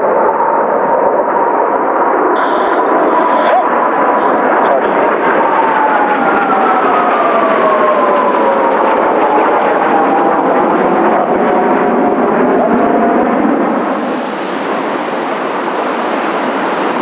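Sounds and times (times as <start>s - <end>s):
jet engines passing: 0.0s - 17.0s.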